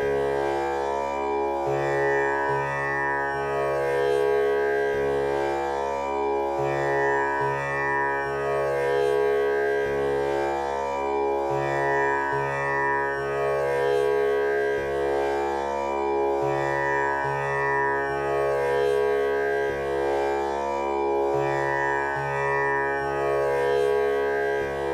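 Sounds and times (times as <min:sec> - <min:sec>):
tanpura drone: 0:00.0 - 0:24.9.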